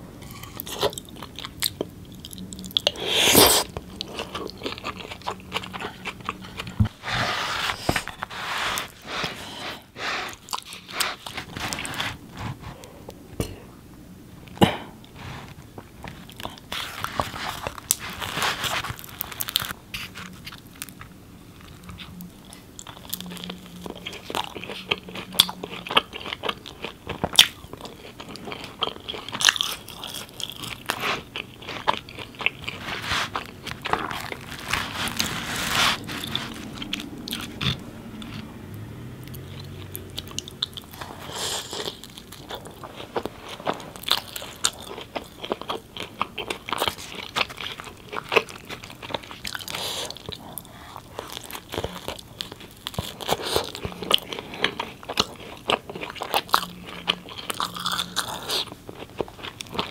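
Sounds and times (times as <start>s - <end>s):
chewing crisp bread: 0.2s - 12.9s, 14.5s - 59.9s.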